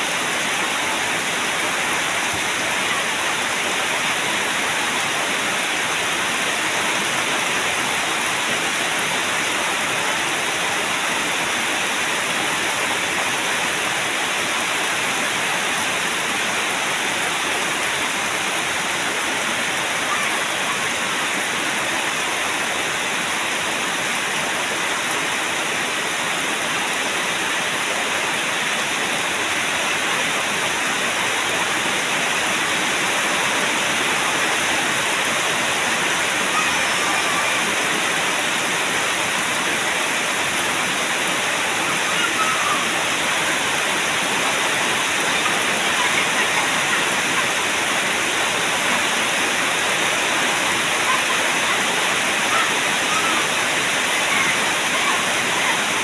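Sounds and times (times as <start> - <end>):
heavy rain on puddles: 0.0 - 56.0.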